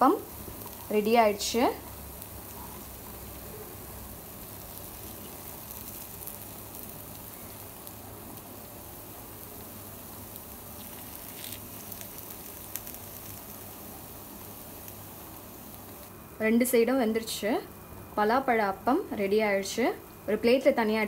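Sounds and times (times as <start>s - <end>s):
food sizzling in ghee: 0.0s - 21.0s.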